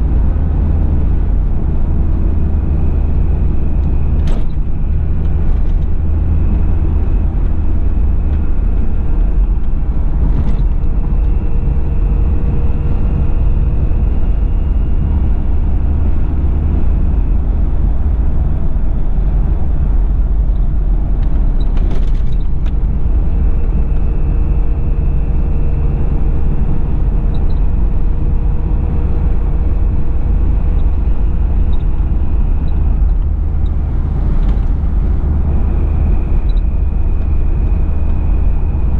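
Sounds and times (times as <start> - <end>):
diesel engine drone with road noise: 0.0 - 38.9.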